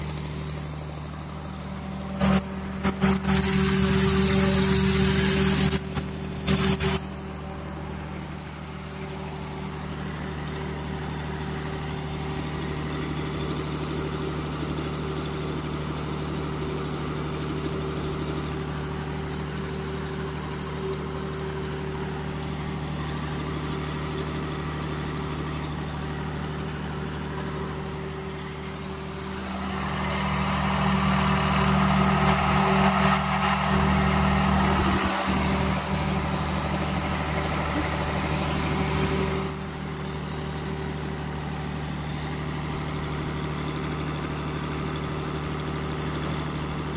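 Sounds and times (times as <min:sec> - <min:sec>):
diesel generator running: 0:00.0 - 0:46.9.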